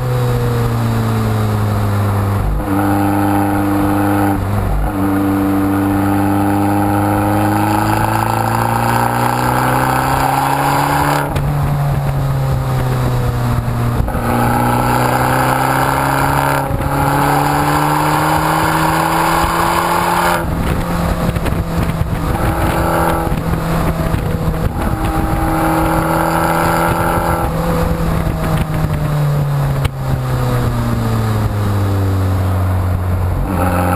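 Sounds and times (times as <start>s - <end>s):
car exhaust note while driving: 0.0s - 33.9s.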